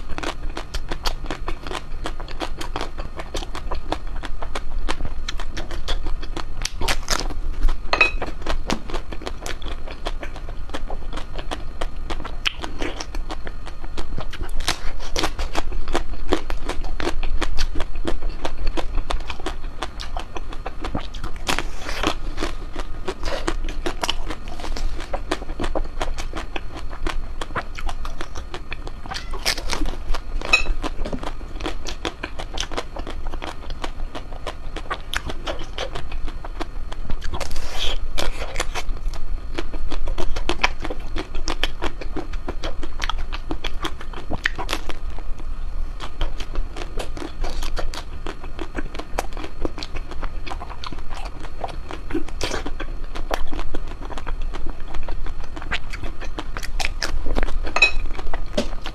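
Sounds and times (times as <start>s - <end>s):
mouth chewing ice cream: 0.0s - 58.9s.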